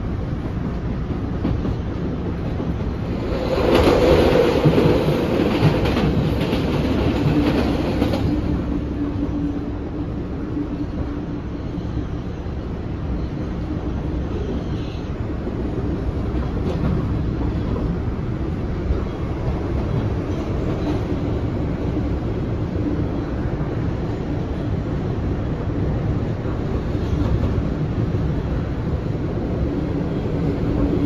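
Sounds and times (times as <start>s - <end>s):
passing train rush: 0.0s - 31.0s
train wheels rumbling on rail: 0.0s - 31.0s.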